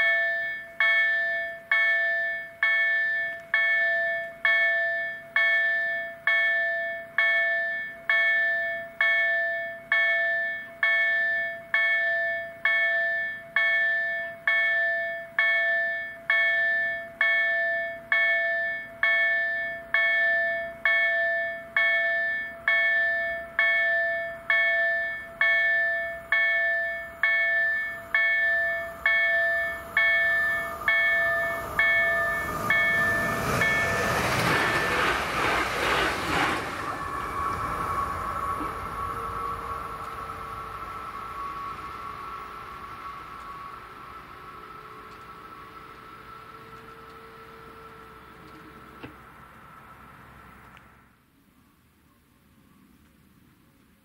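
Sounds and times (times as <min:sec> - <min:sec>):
level crossing warning bell: 0:00.0 - 0:35.1, 0:36.8 - 0:49.0
approaching train: 0:00.0 - 0:51.3.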